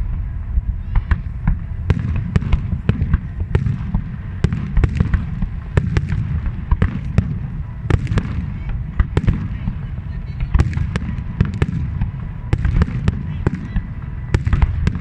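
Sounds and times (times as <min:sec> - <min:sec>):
fireworks bangs and crackles: 0:00.0 - 0:15.0
low rumble of distant bursts: 0:00.0 - 0:15.0.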